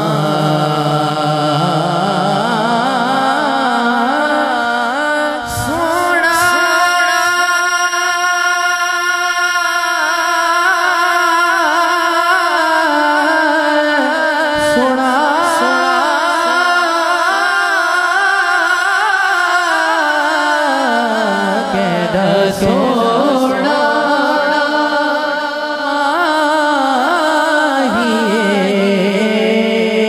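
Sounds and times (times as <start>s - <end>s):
man singing devotional song: 0.0s - 30.0s.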